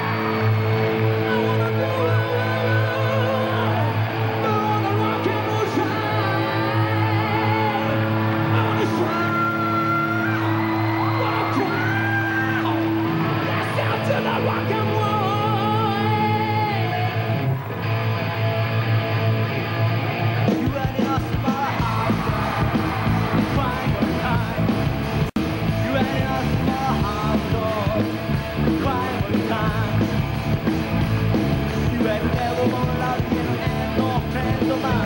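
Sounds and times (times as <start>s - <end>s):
heavy metal band playing: 0.0s - 35.0s.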